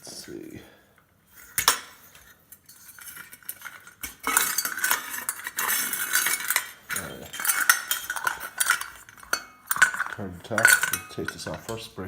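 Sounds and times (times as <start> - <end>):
metal chandelier parts clinking: 1.3 - 12.0.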